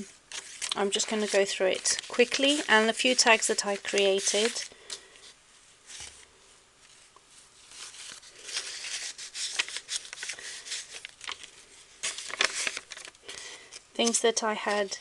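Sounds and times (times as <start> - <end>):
paper and card rustling: 0.0 - 15.0.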